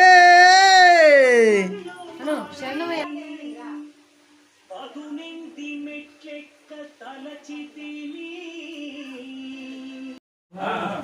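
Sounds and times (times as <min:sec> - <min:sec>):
person singing devotional chant: 0:00.0 - 0:04.0, 0:04.7 - 0:11.0.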